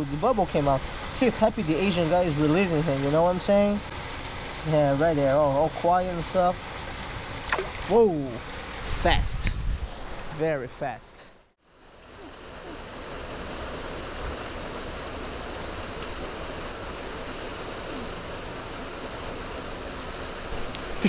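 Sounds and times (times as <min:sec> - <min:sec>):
creek water flowing: 0:00.0 - 0:09.2, 0:11.6 - 0:21.0.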